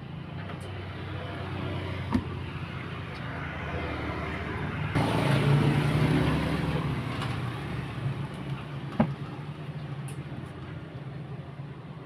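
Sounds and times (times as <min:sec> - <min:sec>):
vehicle engine low hum: 0:00.0 - 0:12.0.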